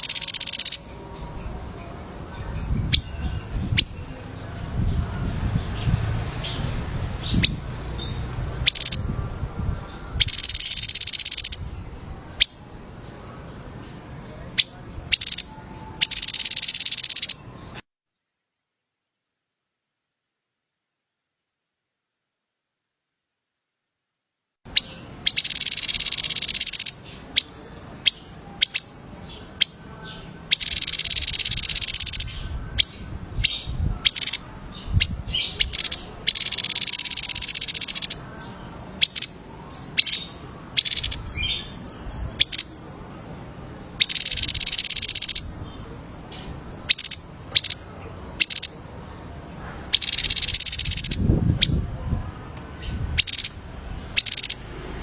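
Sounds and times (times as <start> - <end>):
songbird buzzy trill: 0.0 - 17.8, 24.7 - 55.0.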